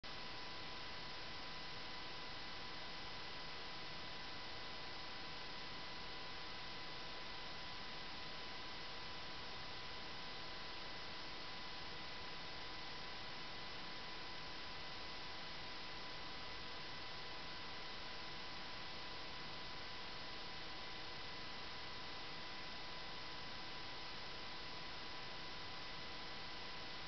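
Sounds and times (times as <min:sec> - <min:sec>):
faint high-pitched whine: 0:00.0 - 0:27.0.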